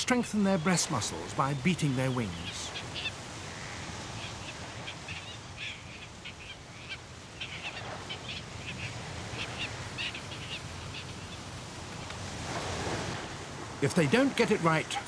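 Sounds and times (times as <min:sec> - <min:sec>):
wind and surf: 0:00.0 - 0:15.0.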